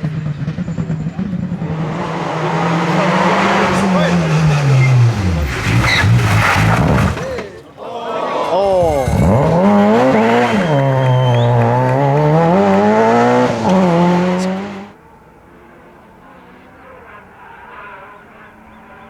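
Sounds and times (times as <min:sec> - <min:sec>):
distant engine: 0:00.0 - 0:07.6, 0:08.6 - 0:19.0
rally car engine revving: 0:00.0 - 0:07.6, 0:08.7 - 0:19.0.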